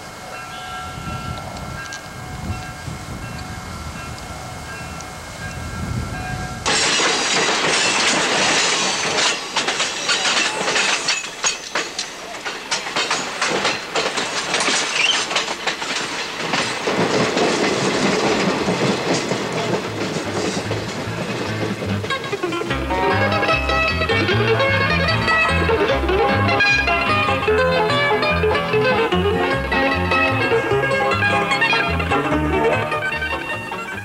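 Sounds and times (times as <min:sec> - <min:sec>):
train wind and wheel noise: 0:00.0 - 0:34.0
wheels clicking over rails: 0:00.0 - 0:34.0.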